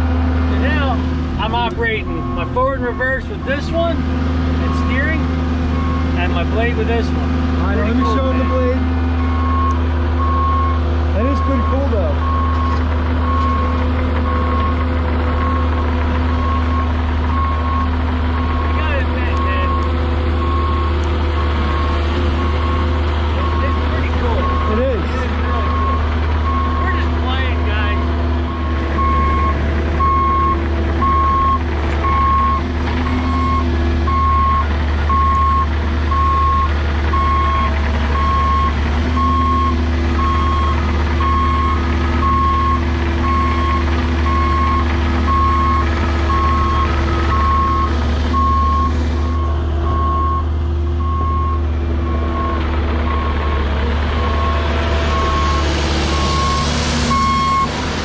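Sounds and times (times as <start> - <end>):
diesel engine running: 0.0 - 58.0
backup alarm beeping: 1.5 - 3.8, 7.9 - 14.8, 18.5 - 53.6, 54.4 - 57.8.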